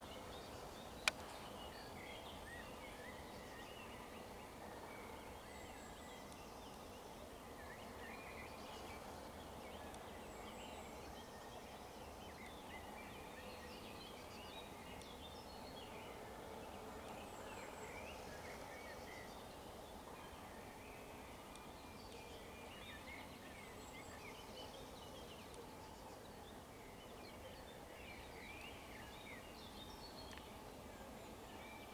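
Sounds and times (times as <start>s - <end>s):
songbirds chirping and trilling: 0.0s - 31.9s.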